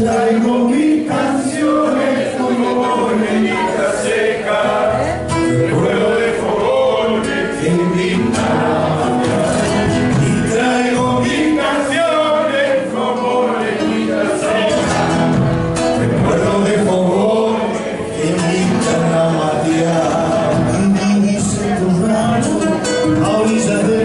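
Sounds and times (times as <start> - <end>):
instrumental accompaniment: 0.0 - 24.0
voices singing folk song: 0.0 - 24.0.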